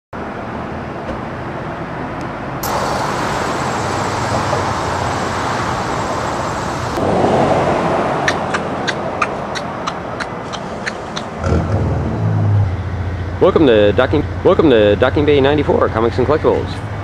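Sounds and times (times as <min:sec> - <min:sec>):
highway traffic rushing: 0:00.2 - 0:17.0.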